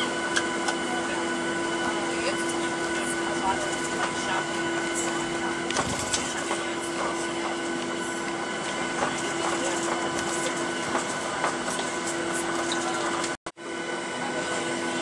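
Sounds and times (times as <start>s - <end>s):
jet engines idling hum and whine: 0.0s - 15.0s.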